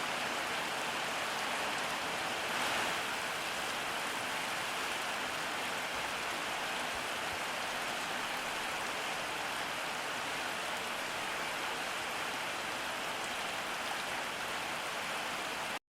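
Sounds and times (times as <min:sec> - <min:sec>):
steady rain falling: 0:00.0 - 0:15.8.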